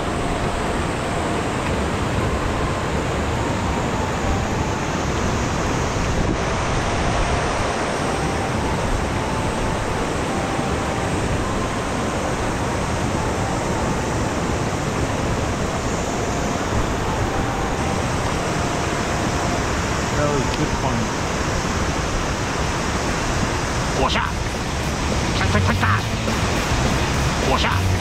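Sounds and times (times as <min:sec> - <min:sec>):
river rushing over rocks: 0:00.0 - 0:28.0.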